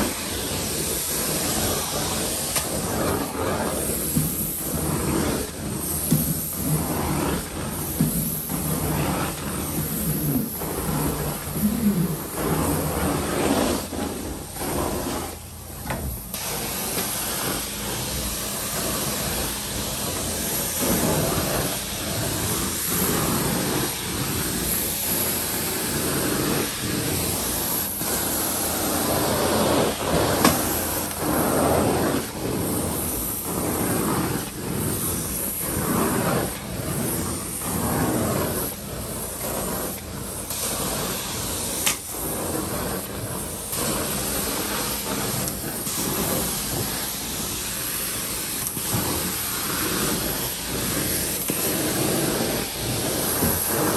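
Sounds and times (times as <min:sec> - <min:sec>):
carpet cleaning wand hissing: 0:00.0 - 0:53.9.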